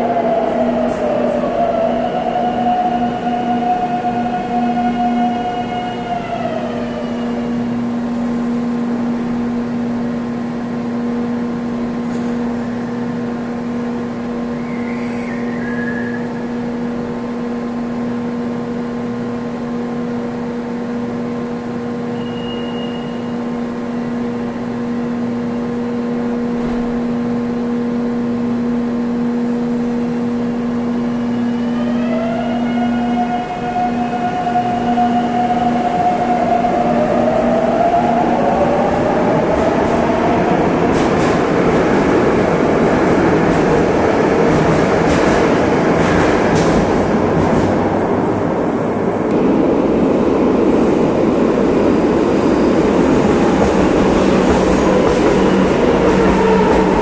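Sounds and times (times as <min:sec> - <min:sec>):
train electric hum: 0:00.0 - 0:57.0.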